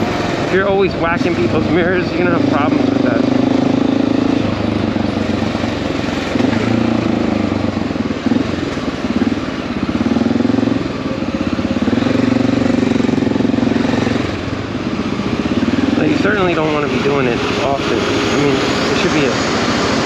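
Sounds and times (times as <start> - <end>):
motorcycle engine revving: 0.0 - 20.0
road noise: 0.0 - 20.0.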